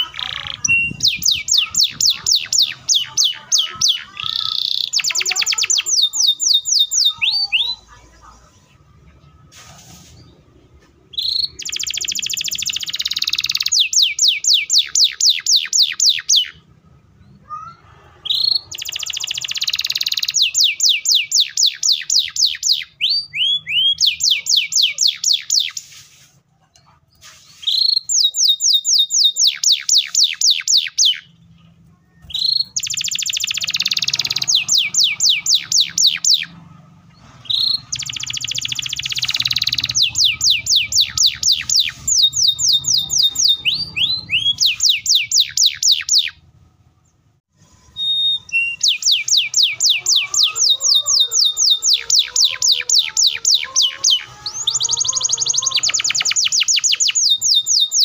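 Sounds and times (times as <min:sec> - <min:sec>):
canary singing: 0:00.0 - 0:09.5, 0:10.1 - 0:26.0, 0:26.7 - 0:58.0.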